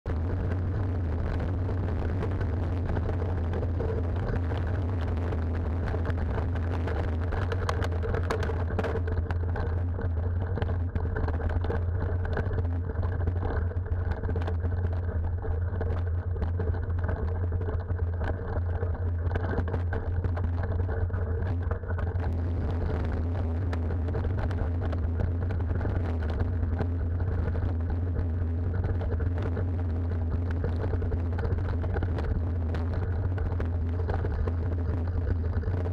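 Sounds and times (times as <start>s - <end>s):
bike rumbling on gravel track: 0.0s - 35.9s
wind noise on microphone: 0.0s - 35.9s.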